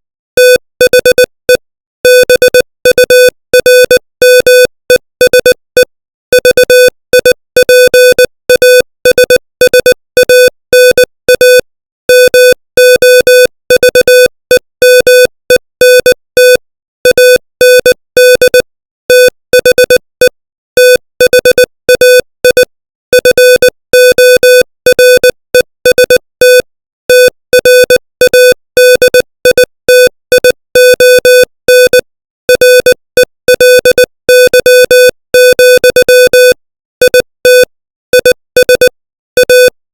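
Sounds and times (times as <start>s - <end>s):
morse code beeping: 0.4s - 1.3s, 2.1s - 39.8s.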